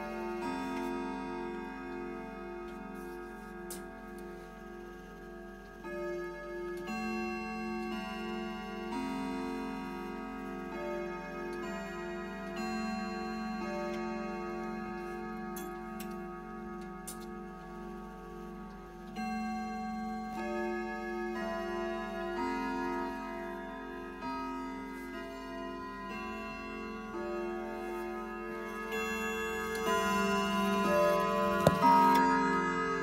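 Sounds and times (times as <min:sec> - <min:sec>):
clock chiming a melody: 0:00.0 - 0:33.0.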